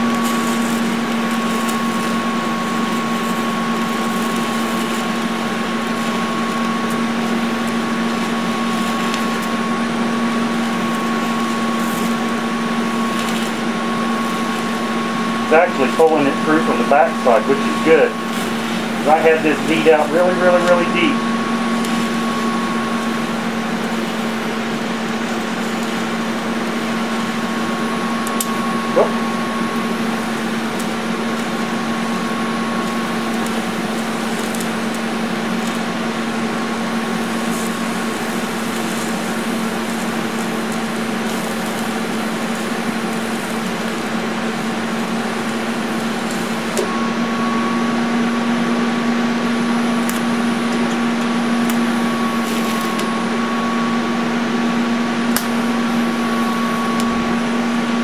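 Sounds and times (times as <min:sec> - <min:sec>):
welding arc buzzing with hiss: 0:00.0 - 0:58.0.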